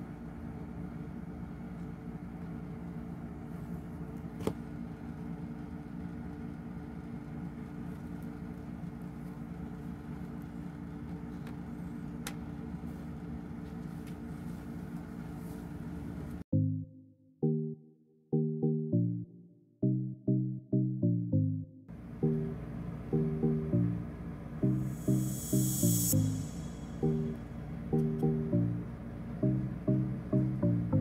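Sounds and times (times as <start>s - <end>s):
low mechanical hum: 0.0s - 16.8s, 19.9s - 31.0s.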